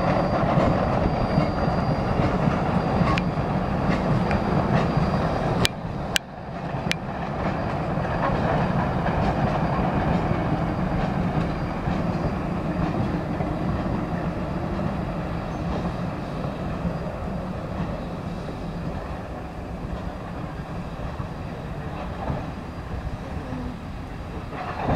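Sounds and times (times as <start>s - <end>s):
steam train rolling past: 0.0s - 24.9s.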